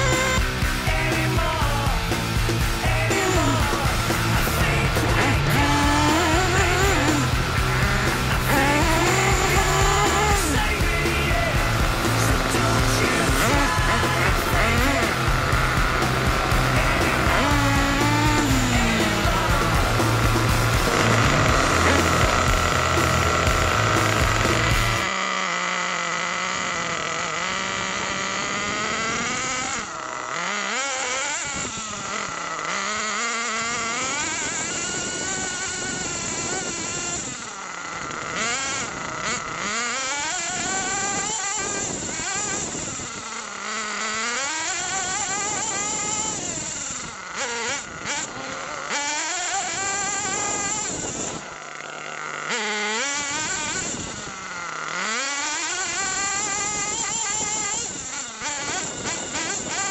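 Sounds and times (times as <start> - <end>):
small engine revving: 0.0 - 59.9.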